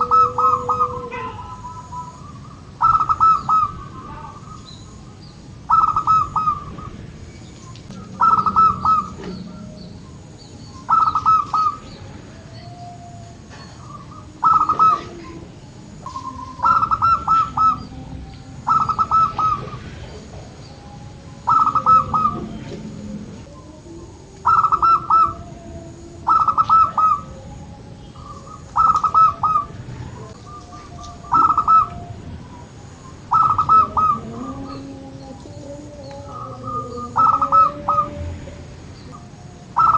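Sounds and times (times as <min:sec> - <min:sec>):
dove cooing: 0:00.0 - 0:07.0, 0:07.8 - 0:39.9
fainter lower bird calls: 0:00.0 - 0:25.5, 0:26.3 - 0:38.2, 0:38.8 - 0:39.9.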